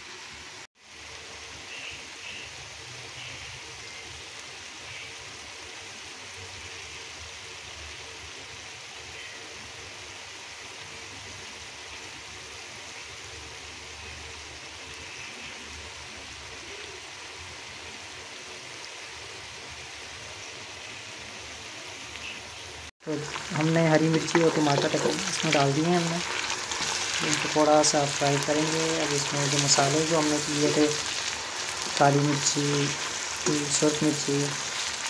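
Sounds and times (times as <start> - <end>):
vegetables sizzling in hot oil: 0.0 - 35.0.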